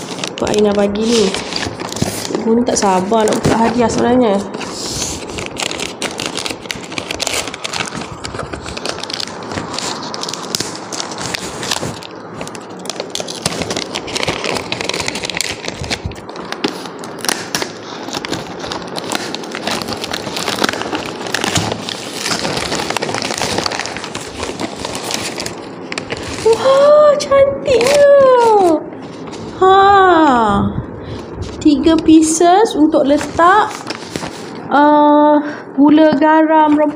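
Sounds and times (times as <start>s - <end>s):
wrapping paper tearing and crumpling: 0.0s - 29.8s, 33.1s - 34.6s.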